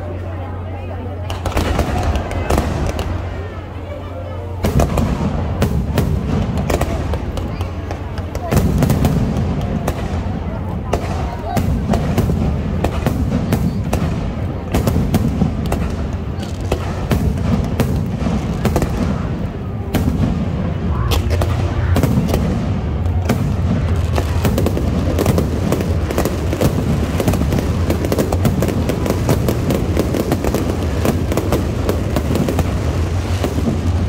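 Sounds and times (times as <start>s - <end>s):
continuous low rumble: 0.0s - 34.0s
fireworks bursting: 1.2s - 34.0s.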